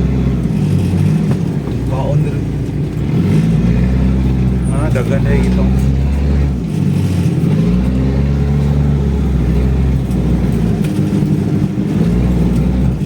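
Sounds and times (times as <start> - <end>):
off-road engine revving: 0.0 - 13.0.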